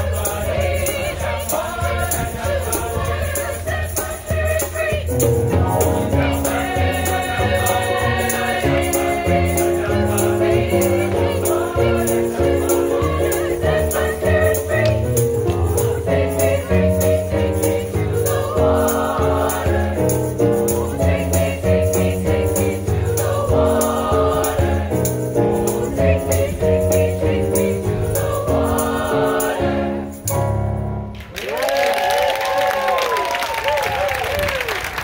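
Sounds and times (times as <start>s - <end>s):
choir singing in harmony: 0.0s - 30.6s
steady percussion beat: 0.0s - 30.6s
instrumental backing: 0.0s - 31.2s.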